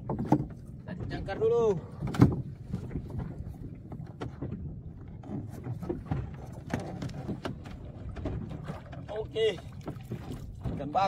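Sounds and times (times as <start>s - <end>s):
boat knocks and bumps: 0.0s - 11.0s
water slapping against a canoe: 0.0s - 11.0s
wind: 0.0s - 11.0s.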